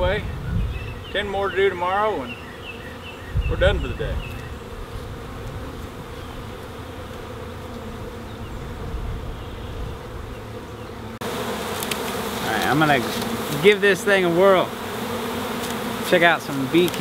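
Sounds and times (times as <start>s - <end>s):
bees buzzing: 0.3s - 17.0s.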